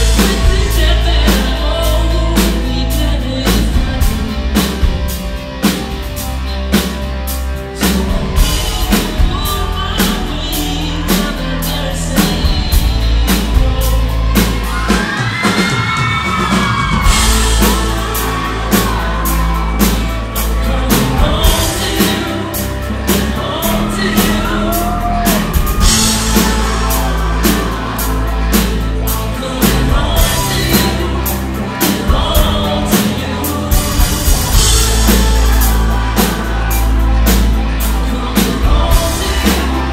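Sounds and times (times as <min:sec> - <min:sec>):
live rock band playing: 0:00.0 - 0:39.9
person singing lead vocals: 0:00.0 - 0:39.9.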